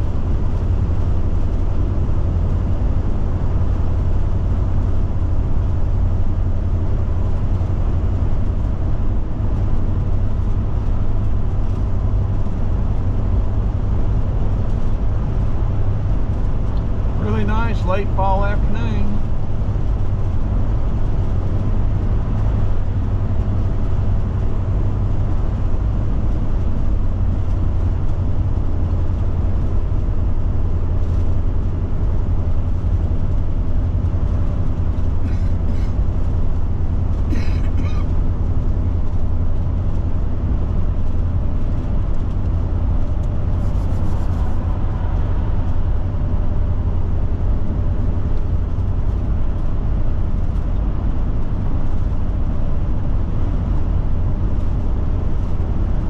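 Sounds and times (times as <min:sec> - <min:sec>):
motorhome engine and tyres droning: 0:00.0 - 0:56.0.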